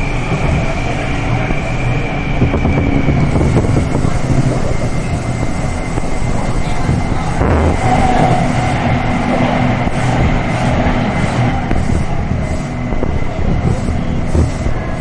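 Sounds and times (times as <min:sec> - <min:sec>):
passing metro train: 0:00.0 - 0:15.0
train wheels rumbling on rail: 0:00.0 - 0:15.0.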